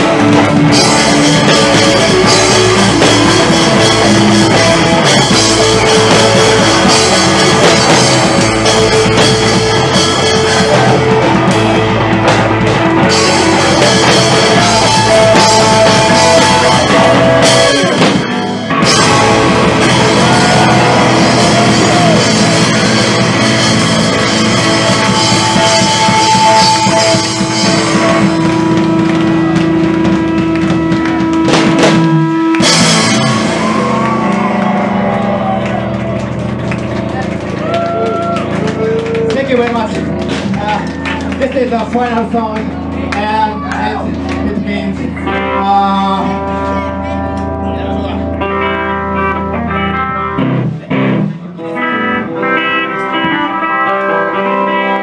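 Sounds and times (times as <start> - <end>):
punk rock band playing live: 0.0 - 55.0.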